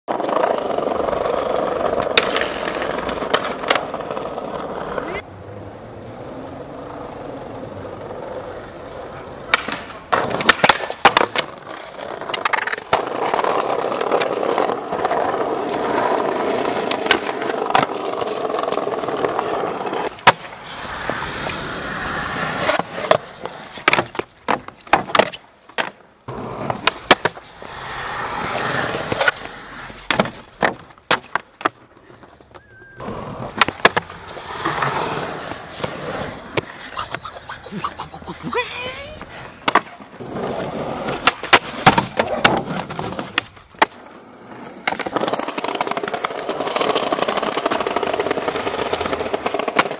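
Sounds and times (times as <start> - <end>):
skateboard clacks: 0.1 - 38.3, 39.1 - 49.9
skateboard wheels rolling on pavement: 0.1 - 49.9.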